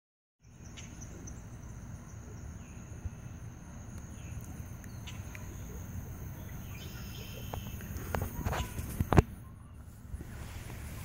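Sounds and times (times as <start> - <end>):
crickets trilling: 0.4 - 11.0.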